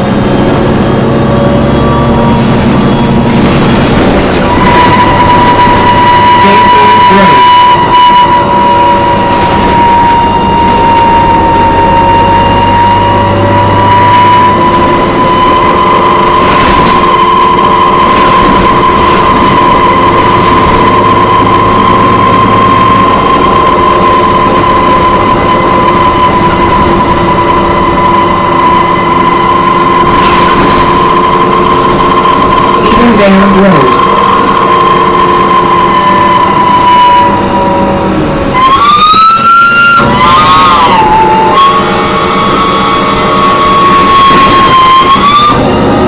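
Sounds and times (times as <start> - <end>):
bus engine rumble: 0.0 - 46.0
high-pitched screech: 0.0 - 46.0.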